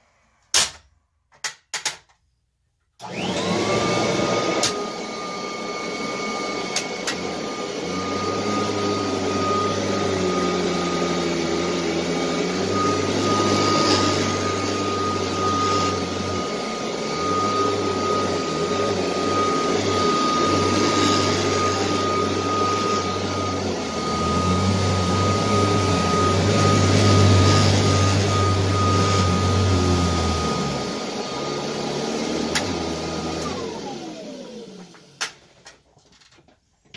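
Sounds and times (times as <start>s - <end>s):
vacuum motor winding down: 3.0s - 35.2s
vacuum cleaner motor whine: 3.0s - 35.4s.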